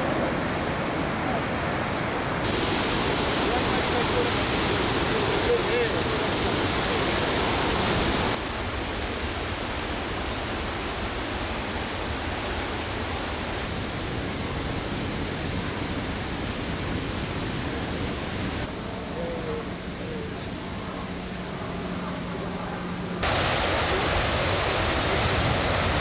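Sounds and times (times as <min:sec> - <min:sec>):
steady water rushing: 0:00.0 - 0:26.0
waterfall roaring: 0:00.0 - 0:26.0.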